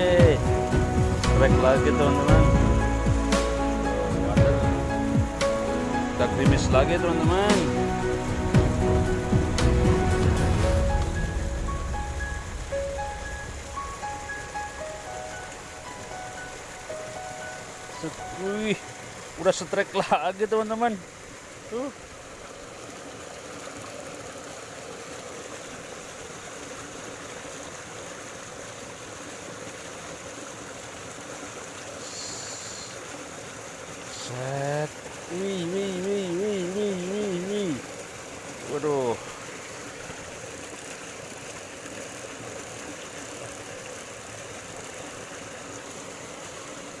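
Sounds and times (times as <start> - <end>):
stream water flowing: 0.0 - 47.0.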